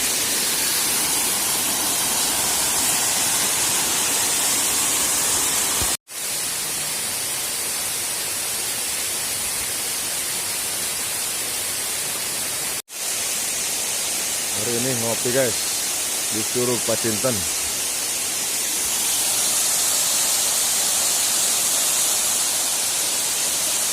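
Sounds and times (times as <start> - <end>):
waterfall rushing: 0.0 - 9.5, 12.0 - 23.9.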